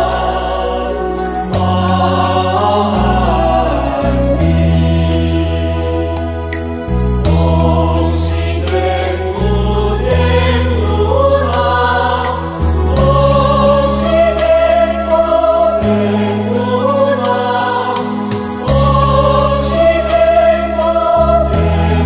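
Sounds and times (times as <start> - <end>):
choir singing slow melody: 0.0 - 22.0
sustained bass notes: 0.0 - 22.0.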